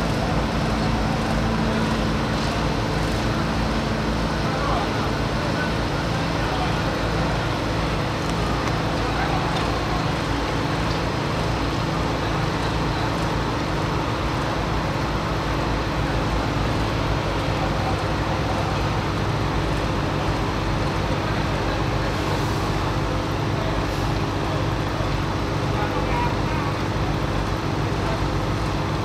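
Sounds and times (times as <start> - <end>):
crane diesel engine droning: 0.0 - 29.0.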